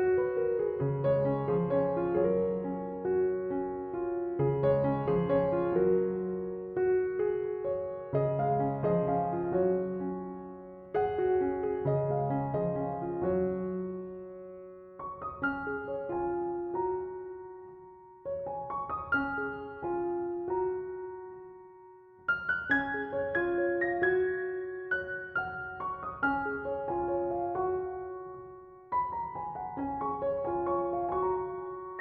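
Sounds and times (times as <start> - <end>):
slow gentle piano music: 0.0 - 32.0.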